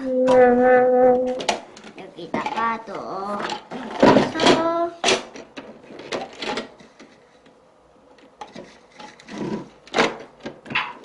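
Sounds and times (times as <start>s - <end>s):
plastic toys knocking and scraping: 1.2s - 11.0s.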